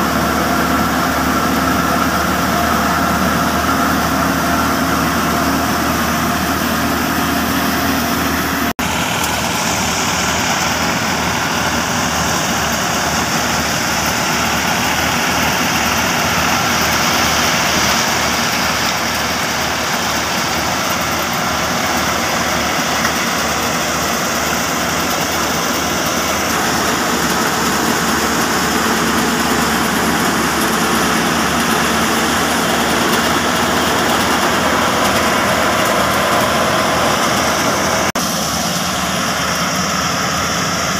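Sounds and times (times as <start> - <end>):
grain thresher mechanical rush: 0.0 - 40.9
tractor diesel engine running: 0.0 - 40.9.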